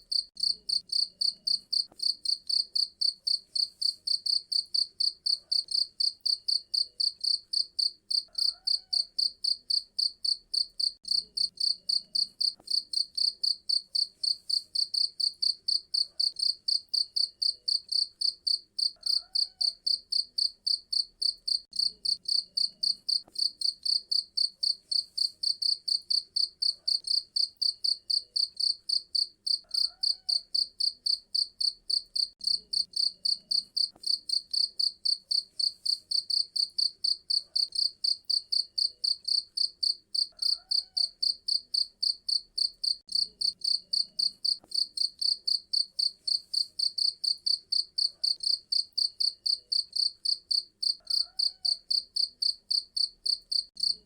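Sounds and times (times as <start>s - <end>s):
cricket chirping: 0.1s - 54.0s.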